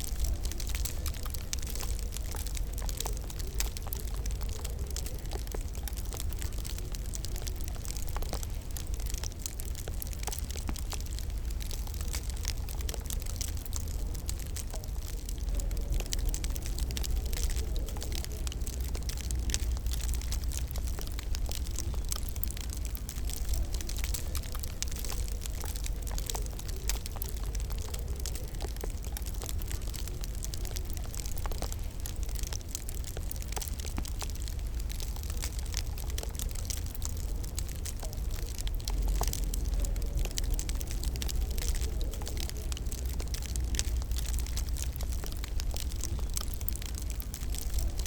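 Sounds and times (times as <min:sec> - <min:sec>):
low fire rumble: 0:00.0 - 0:48.0
wood fire crackling: 0:00.0 - 0:48.0.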